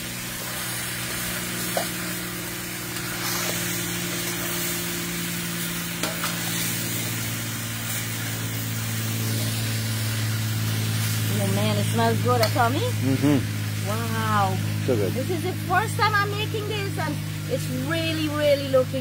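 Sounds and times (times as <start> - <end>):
low hum: 0.0 - 19.0
meat sizzling in hot oil: 0.0 - 19.0.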